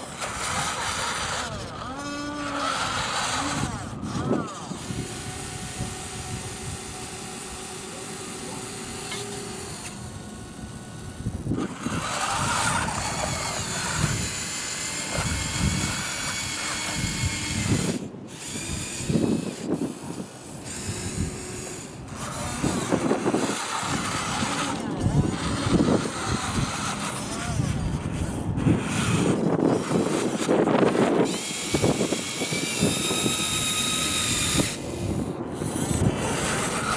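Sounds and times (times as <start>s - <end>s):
toy electric motors whining: 0.0s - 36.9s.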